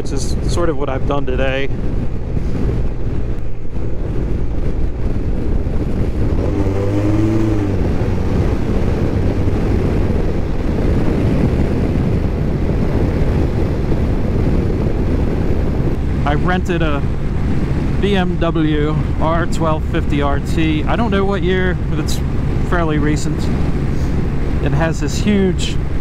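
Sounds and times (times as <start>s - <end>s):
wind rush on microphone: 0.0s - 26.0s
motorcycle engine running: 1.7s - 26.0s.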